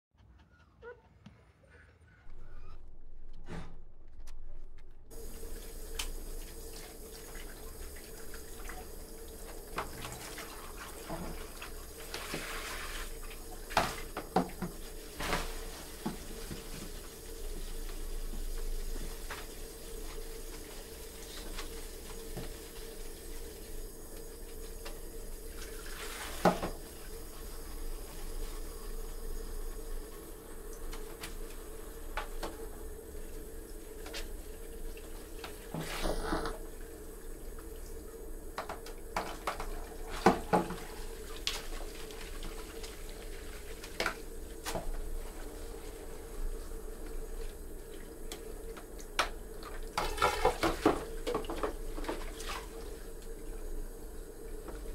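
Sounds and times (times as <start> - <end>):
shower water running into basin: 5.1 - 54.9.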